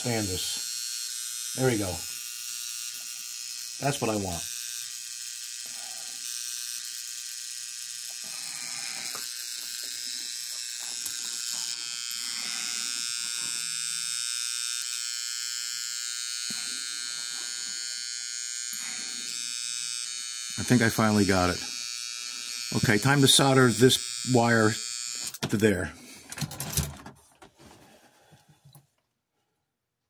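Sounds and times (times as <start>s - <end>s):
toy train motor whining: 0.0s - 25.4s.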